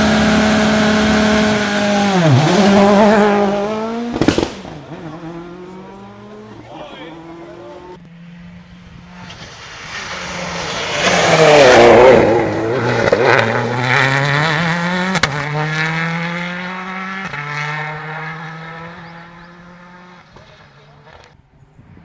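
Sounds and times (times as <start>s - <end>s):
rally car engine passing: 0.0s - 21.4s.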